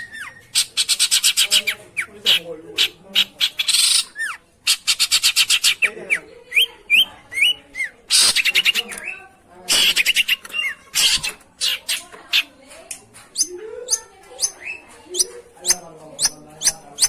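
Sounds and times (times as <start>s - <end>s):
harsh rasping bursts and chatter: 0.0s - 17.0s.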